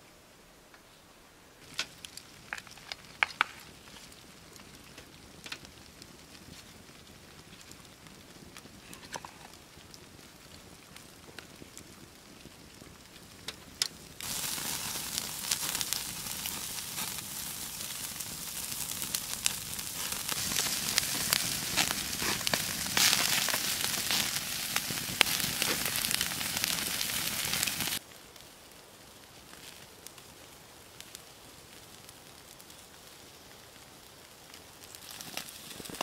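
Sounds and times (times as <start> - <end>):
food frying with crackles: 1.6 - 36.0.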